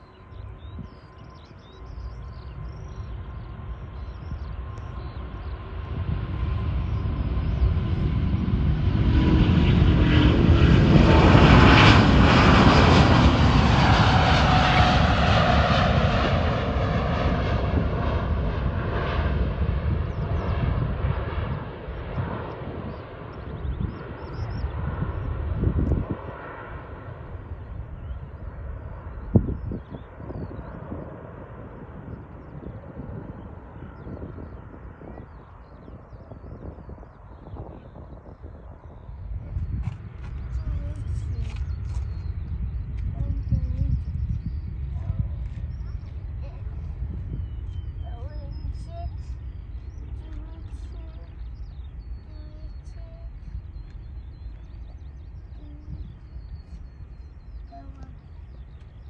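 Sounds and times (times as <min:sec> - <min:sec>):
jetliner taking off: 0:00.0 - 0:59.0.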